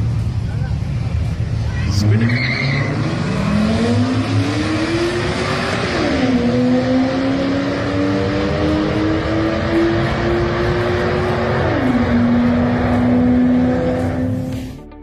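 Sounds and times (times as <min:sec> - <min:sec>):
car engine accelerating hard: 0:00.0 - 0:14.8.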